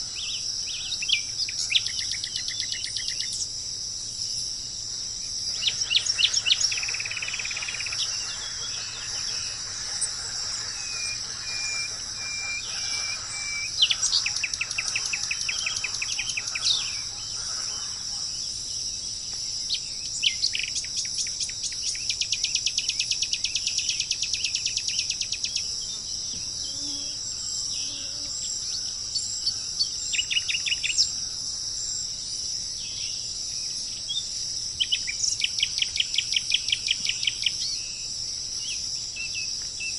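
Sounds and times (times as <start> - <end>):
high-pitched insect chorus: 0.0 - 39.9
songbirds singing: 0.0 - 39.9.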